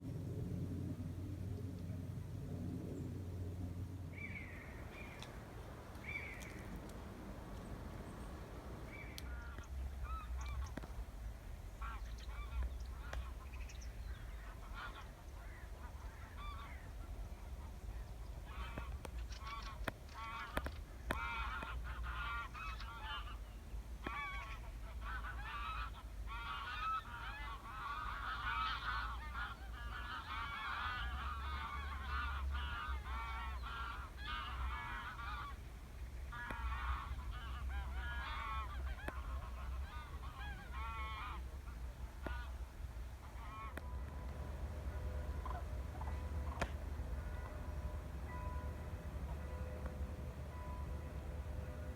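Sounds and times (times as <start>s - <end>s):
geese honking in flight: 4.1s - 10.9s, 11.7s - 35.7s, 36.3s - 51.9s.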